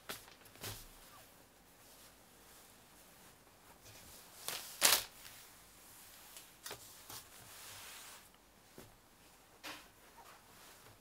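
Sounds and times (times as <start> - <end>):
fabric rustling over a table: 0.0 - 9.0, 9.8 - 11.0.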